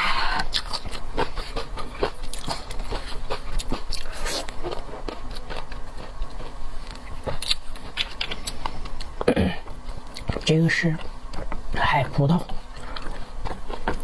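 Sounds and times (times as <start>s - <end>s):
chewing and biting seafood: 0.2s - 11.6s, 12.7s - 14.0s.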